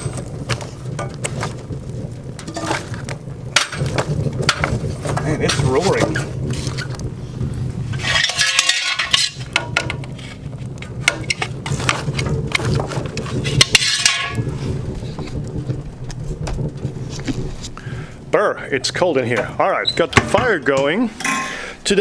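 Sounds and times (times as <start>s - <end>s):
wood stove fire roaring: 0.0s - 22.0s.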